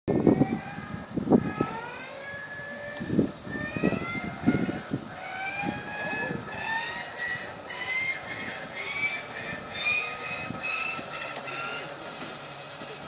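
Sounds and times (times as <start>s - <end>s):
flywheel starter whine rising: 0.1s - 13.0s.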